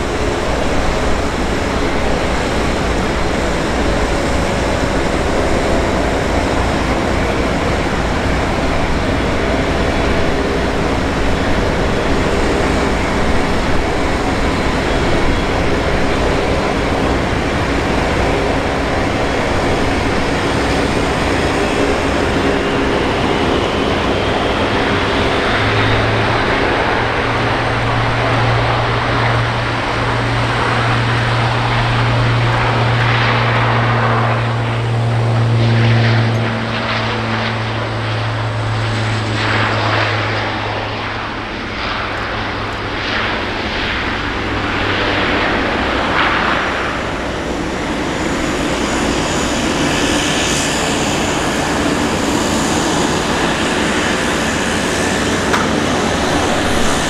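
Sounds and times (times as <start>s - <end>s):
loud rushing roar: 0.0s - 57.0s
low propeller drone: 0.0s - 57.0s.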